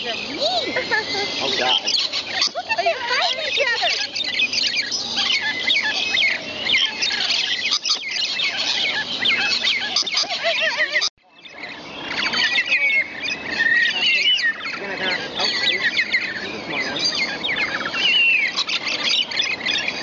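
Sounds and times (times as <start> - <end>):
lorikeets calling: 0.0 - 20.0.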